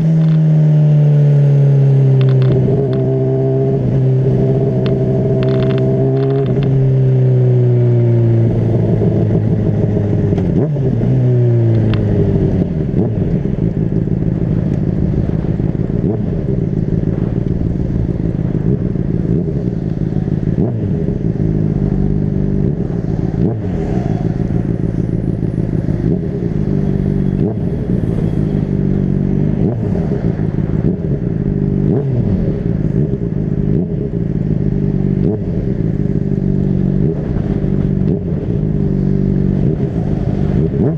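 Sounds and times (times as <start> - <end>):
motorcycle engine running: 0.0 - 40.9
wind rumble on microphone: 1.8 - 40.9.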